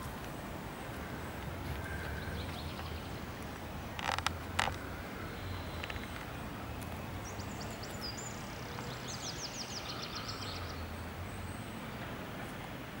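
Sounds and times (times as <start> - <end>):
songbird singing: 0.9 - 12.8.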